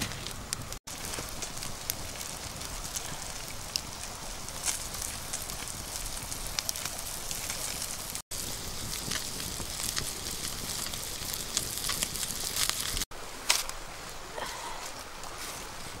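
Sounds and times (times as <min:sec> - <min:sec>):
fish sizzling on grill: 0:00.0 - 0:14.5
campfire crackling and popping: 0:00.0 - 0:16.0.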